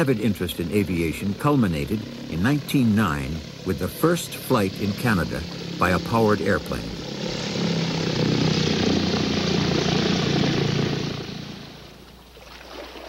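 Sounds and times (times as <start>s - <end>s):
propeller plane engine passing: 0.0s - 13.0s.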